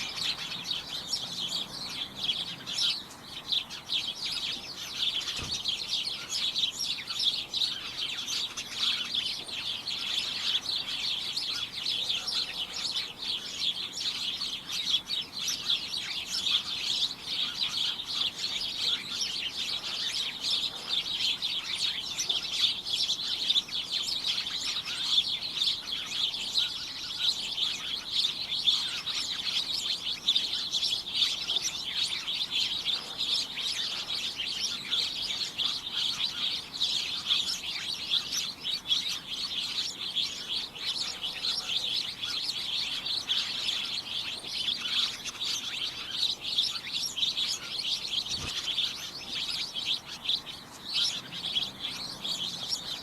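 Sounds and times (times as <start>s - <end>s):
flock of small birds chirping: 0.0s - 53.0s.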